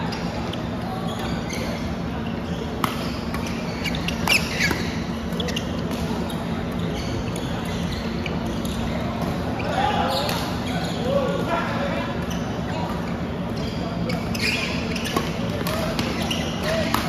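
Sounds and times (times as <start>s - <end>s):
shoe squeaks on court floor: 0.0s - 11.1s, 12.2s - 17.0s.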